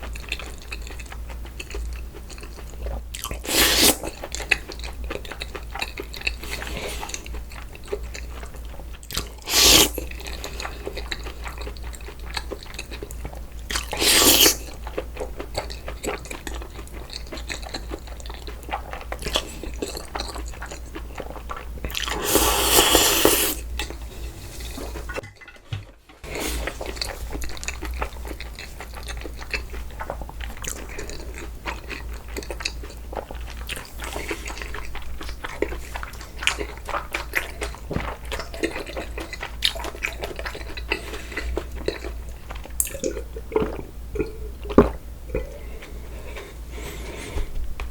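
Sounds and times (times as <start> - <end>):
person chewing noodles: 0.0 - 25.6, 26.2 - 47.9.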